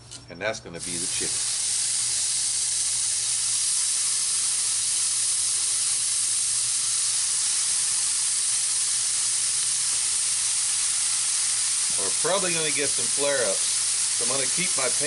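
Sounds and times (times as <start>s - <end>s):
skewers sizzling on a grill: 0.8s - 15.0s.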